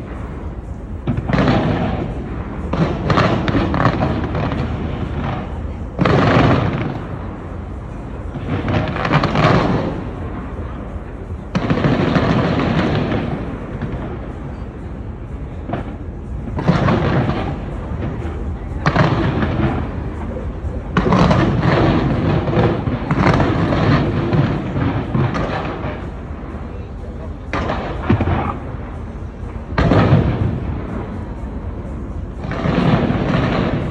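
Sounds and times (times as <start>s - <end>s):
fireworks bursting with rumble: 0.0s - 33.9s.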